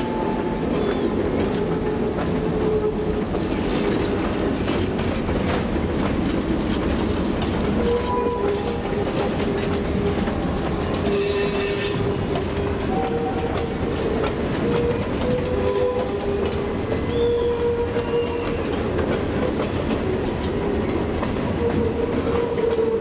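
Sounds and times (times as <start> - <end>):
clicking over rail joints: 0.0 - 23.0
train wheels rumbling on rail: 0.0 - 23.0.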